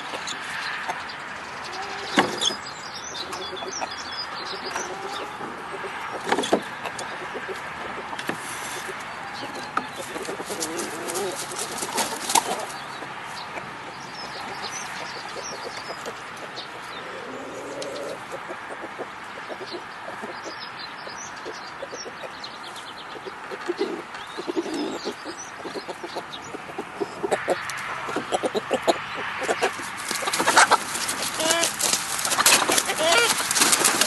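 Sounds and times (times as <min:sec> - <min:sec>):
chickens clucking: 0:00.0 - 0:34.0
small birds chirping: 0:00.0 - 0:34.0.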